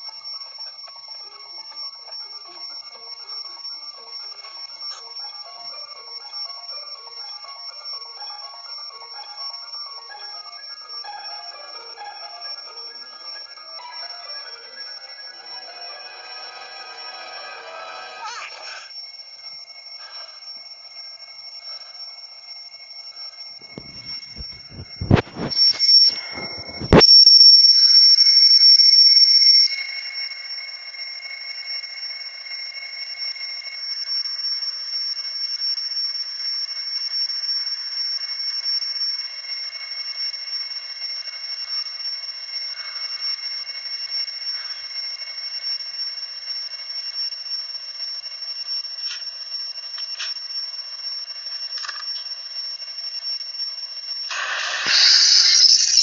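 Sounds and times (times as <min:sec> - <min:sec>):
alarm clock ringing: 0:00.0 - 0:56.0.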